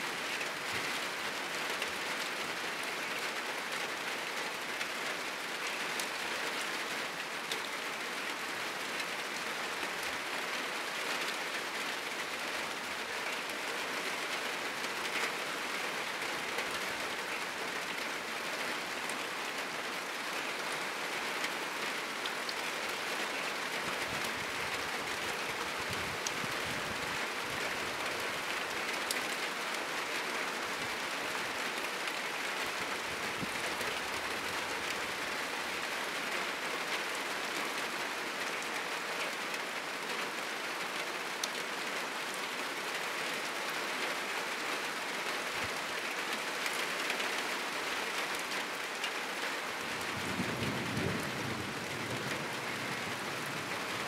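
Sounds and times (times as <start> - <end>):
heavy rain on roof and trees: 0.0 - 54.0.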